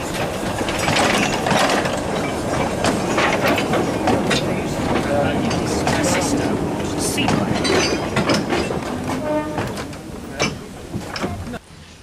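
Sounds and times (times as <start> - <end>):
train wheels clattering on rails: 0.0 - 11.6.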